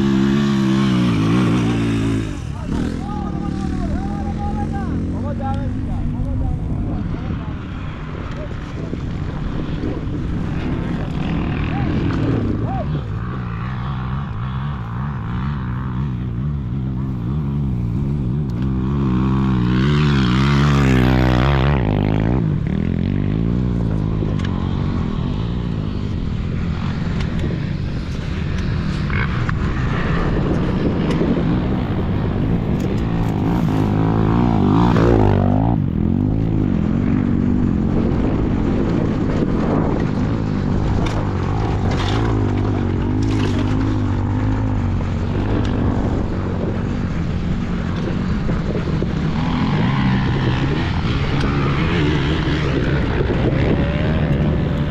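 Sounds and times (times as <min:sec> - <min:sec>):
dirt bike engine revving: 0:00.0 - 0:07.2, 0:09.0 - 0:54.9.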